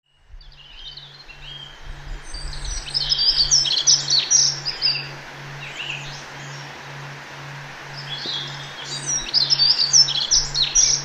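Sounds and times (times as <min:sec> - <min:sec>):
soft low pulsing tone: 0:00.1 - 0:11.0
songbirds chirping: 0:00.1 - 0:11.0.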